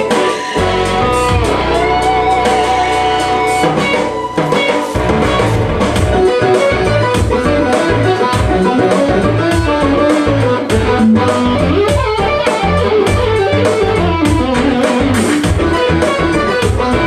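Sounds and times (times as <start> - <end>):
electric guitar lead melody: 0.0 - 17.0
rock drums and bass: 0.0 - 17.0.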